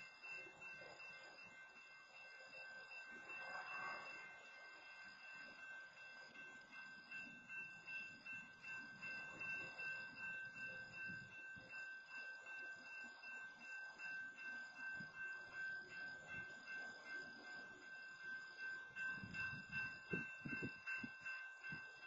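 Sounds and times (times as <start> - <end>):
railroad crossing bell ringing: 0.0 - 22.0.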